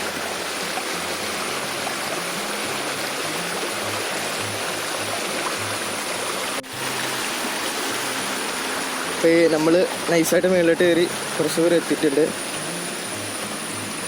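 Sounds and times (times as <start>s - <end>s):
low background music: 0.0s - 14.0s
stream rushing over rocks: 0.0s - 14.0s.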